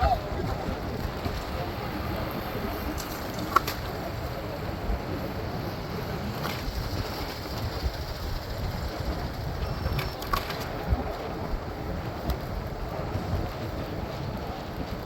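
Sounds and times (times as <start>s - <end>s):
city traffic noise: 0.0s - 15.0s
wind rumbling on microphone: 0.0s - 15.0s.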